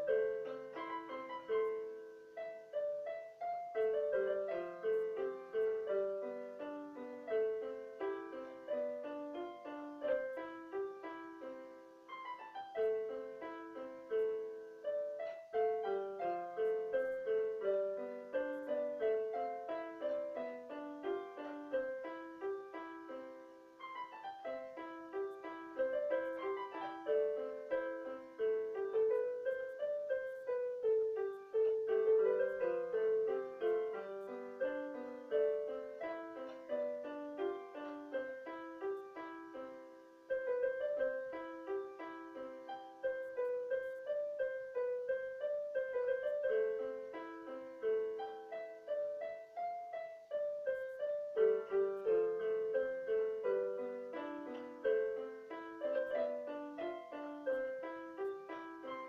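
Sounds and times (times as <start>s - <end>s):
improvised electric keyboard piano: 0.0s - 59.0s.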